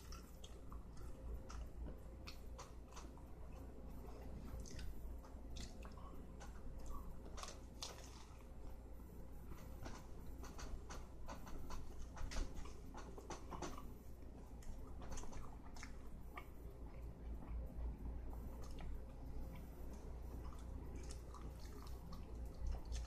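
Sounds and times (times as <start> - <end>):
person chewing sandwich: 0.0 - 23.0.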